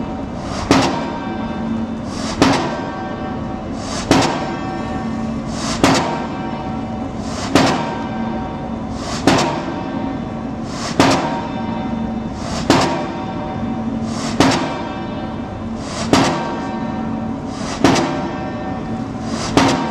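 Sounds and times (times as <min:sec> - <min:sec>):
steady hum: 0:00.0 - 0:19.9
pile hammer blows: 0:00.4 - 0:19.9.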